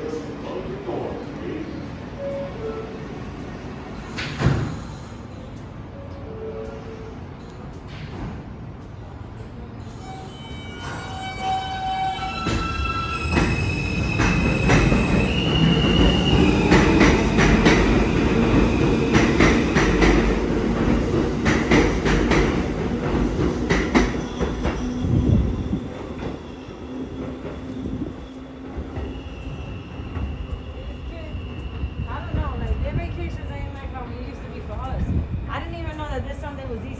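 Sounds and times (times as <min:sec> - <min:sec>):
rumble of train cars: 0:00.0 - 0:36.9.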